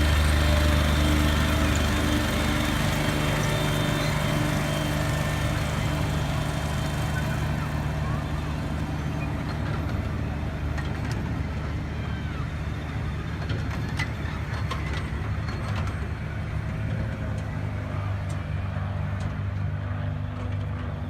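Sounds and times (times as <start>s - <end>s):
train engine humming: 0.0s - 21.0s.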